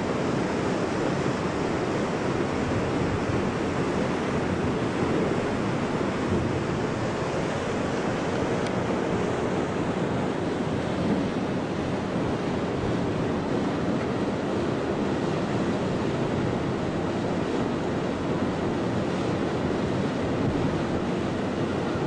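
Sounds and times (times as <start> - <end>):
river water rushing: 0.0 - 22.0
wind on microphone: 0.0 - 22.0.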